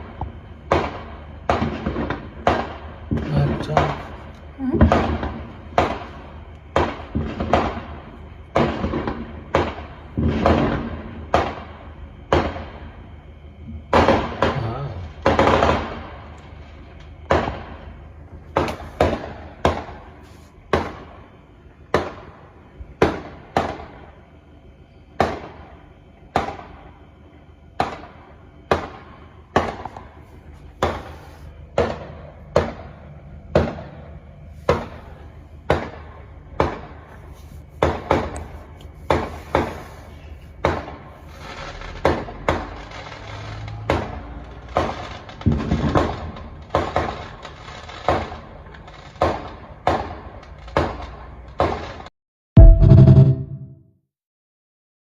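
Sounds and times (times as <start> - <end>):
fireworks banging with echo: 0.0 - 12.9, 13.8 - 21.3, 21.9 - 24.1, 25.2 - 27.0, 27.8 - 53.4.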